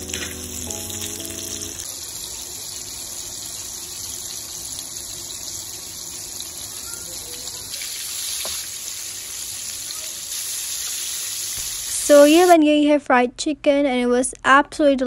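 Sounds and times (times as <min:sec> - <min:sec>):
chicken sizzling in hot oil: 0:00.0 - 0:12.5.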